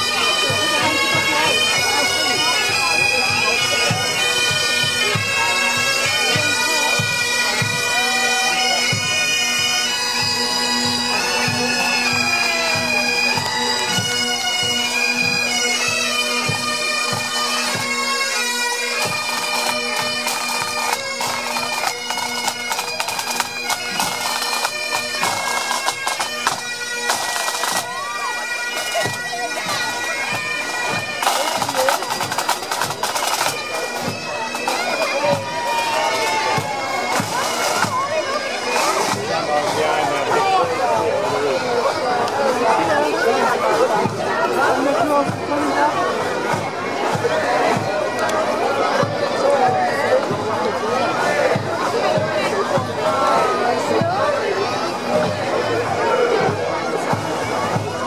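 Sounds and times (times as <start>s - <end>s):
bagpipes playing: 0.0s - 58.0s.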